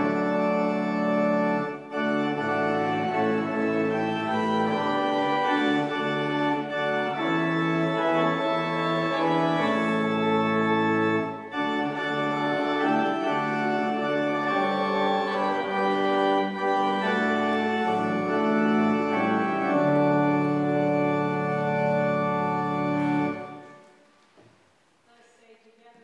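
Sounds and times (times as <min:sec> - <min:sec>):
church organ playing hymn chords: 0:00.0 - 0:24.0.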